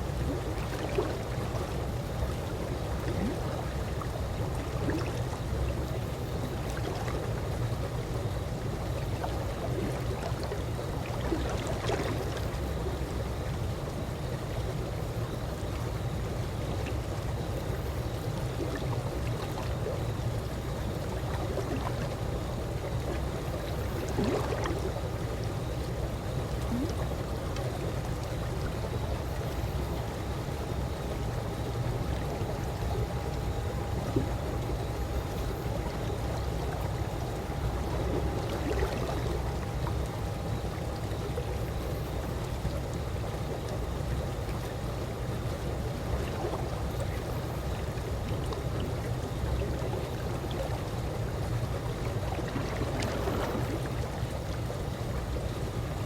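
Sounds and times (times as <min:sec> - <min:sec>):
faint steady tone: 0:00.0 - 0:56.0
pool water lapping and trickling: 0:00.0 - 0:56.0
water splashes: 0:00.1 - 0:05.5, 0:08.8 - 0:13.2, 0:17.8 - 0:56.0.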